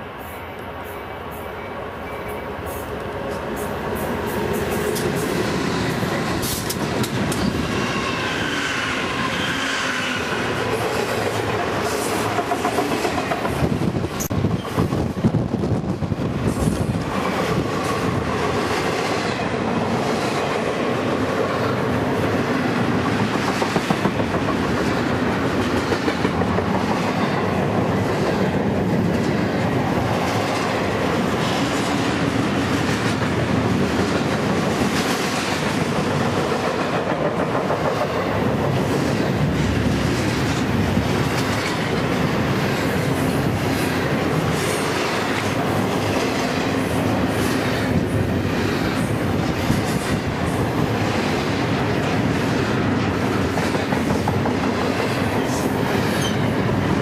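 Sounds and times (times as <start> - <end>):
freight train wheels rolling on rails: 0.0 - 57.0.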